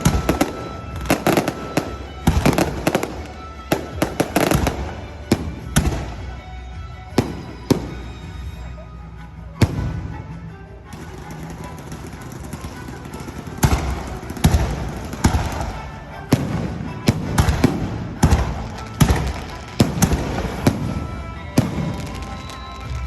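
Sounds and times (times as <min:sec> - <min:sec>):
fireworks bangs: 0:00.0 - 0:06.4, 0:07.1 - 0:08.5, 0:09.6 - 0:10.3, 0:10.9 - 0:23.0.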